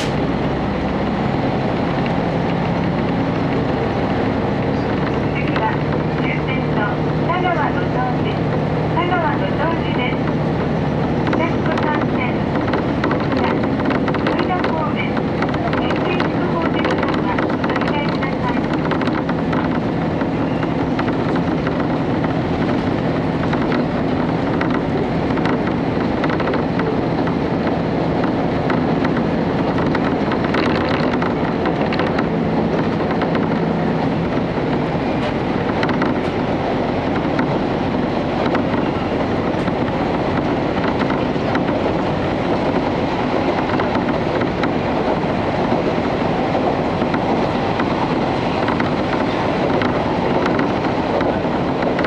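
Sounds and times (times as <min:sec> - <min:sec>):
railcar engine and wheels humming: 0:00.0 - 0:52.0.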